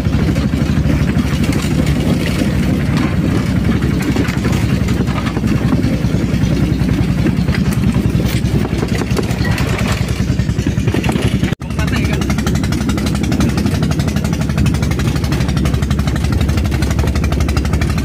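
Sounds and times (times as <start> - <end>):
small engine running steadily: 0.0 - 18.0.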